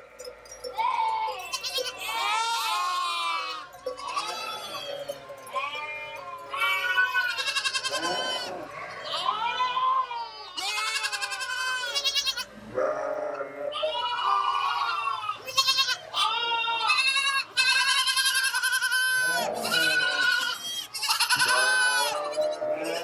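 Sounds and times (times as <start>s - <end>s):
goats bleating: 0.6s - 23.0s.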